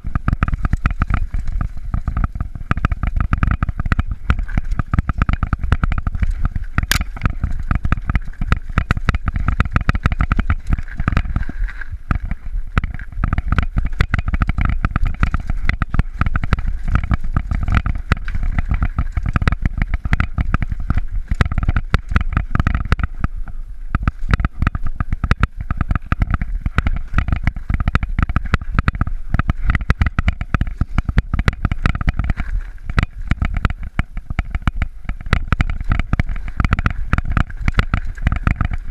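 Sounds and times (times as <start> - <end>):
bike rattling on rough trail: 0.0 - 38.9
wind rumble on microphone: 0.0 - 38.9.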